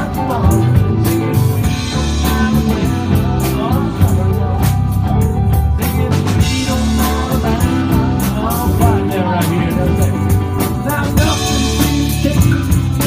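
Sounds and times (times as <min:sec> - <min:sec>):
drum kit beat: 0:00.0 - 0:13.0
electric bass: 0:00.0 - 0:13.0
electric guitar lead line: 0:00.0 - 0:13.0.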